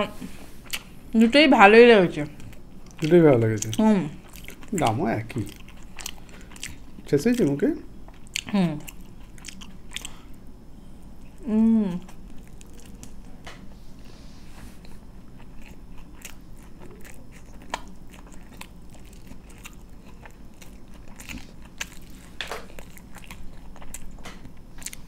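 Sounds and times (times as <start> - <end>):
chewing and crunching food: 0.6 - 1.0, 2.2 - 11.4, 12.0 - 13.7, 14.4 - 25.0.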